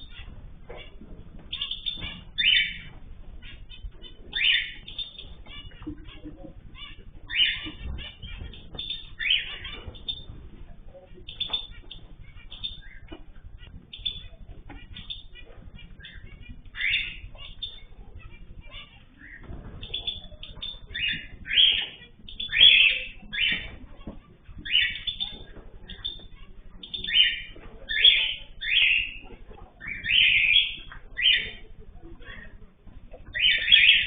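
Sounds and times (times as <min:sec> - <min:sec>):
cage birds chirping: 0:00.0 - 0:34.0.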